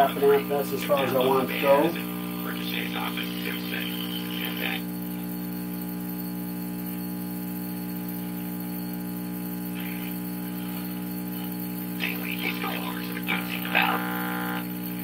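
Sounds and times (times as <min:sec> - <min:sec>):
buzzy mains hum from speaker: 0:00.0 - 0:15.0.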